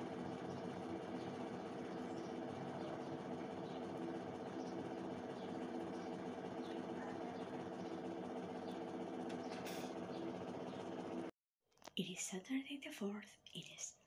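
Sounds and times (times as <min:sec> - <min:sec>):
steady machine hum: 0:00.0 - 0:11.3.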